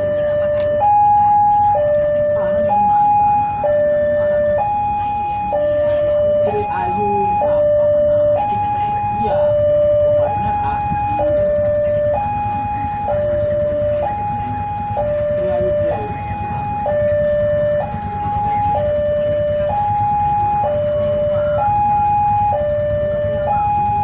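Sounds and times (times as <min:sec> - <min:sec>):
continuous low rumble: 0:00.0 - 0:24.0
level crossing two-tone alarm: 0:00.0 - 0:24.0.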